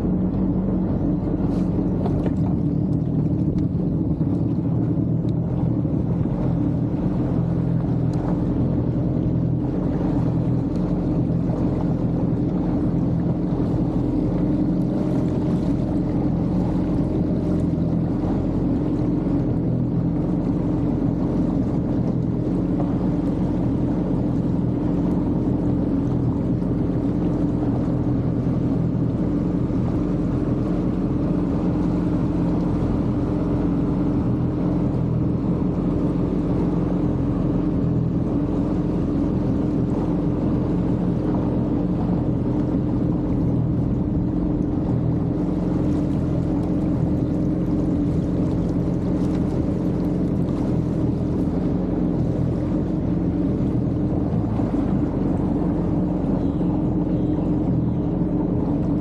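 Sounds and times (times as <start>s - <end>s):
jet ski engine droning: 0.0s - 59.0s.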